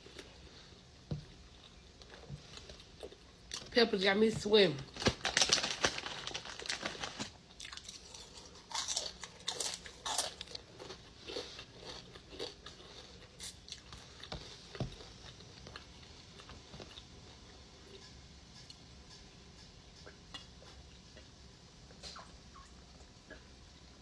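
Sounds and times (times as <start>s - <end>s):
chewing and crunching food: 0.0s - 3.8s, 4.9s - 24.0s.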